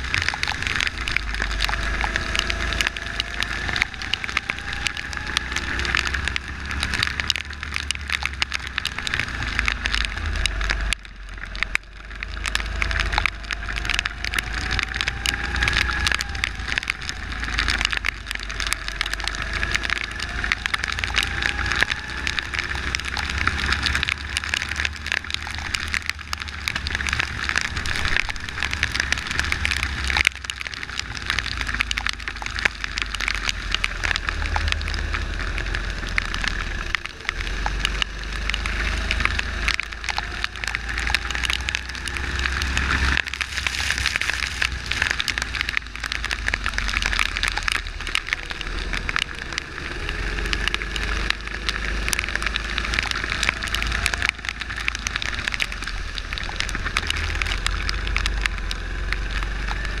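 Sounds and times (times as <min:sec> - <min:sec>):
rain and spray on microphone: 0:00.0 - 1:00.0
wind rumbling on microphone: 0:00.0 - 1:00.0.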